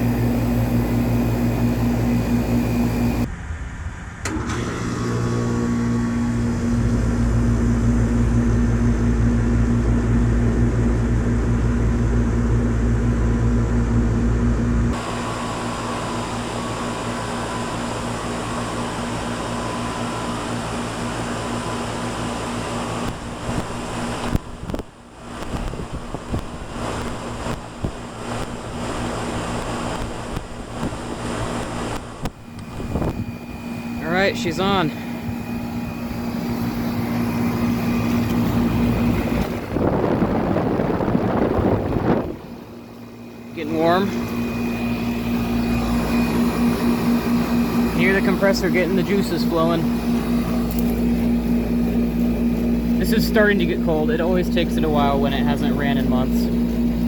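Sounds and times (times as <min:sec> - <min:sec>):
air conditioner unit humming: 0:00.0 - 0:03.3, 0:05.1 - 0:57.0.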